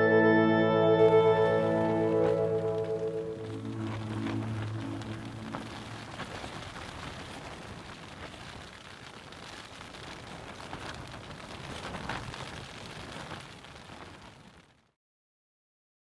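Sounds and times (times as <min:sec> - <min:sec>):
rain beating on tent fabric: 0:01.0 - 0:15.0.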